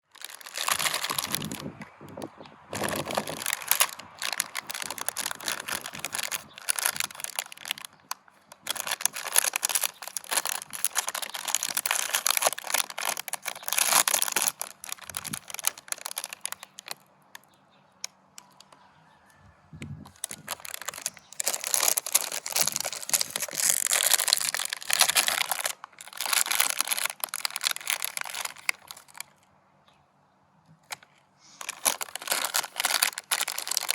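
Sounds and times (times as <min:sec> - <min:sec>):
meat grinder crackling and squishing: 0:00.0 - 0:17.0, 0:20.1 - 0:29.4, 0:31.6 - 0:33.9.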